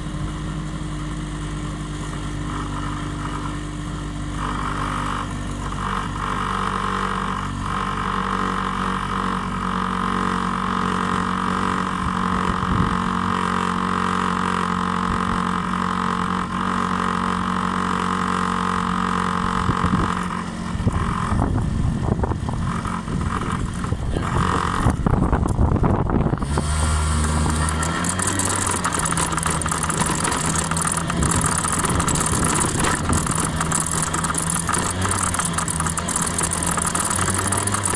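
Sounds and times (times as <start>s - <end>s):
scooter engine running: 0.0s - 37.9s.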